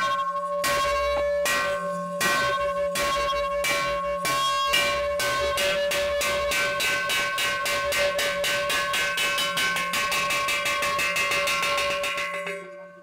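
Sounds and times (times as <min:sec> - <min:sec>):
village bell ringing: 0:00.0 - 0:13.0.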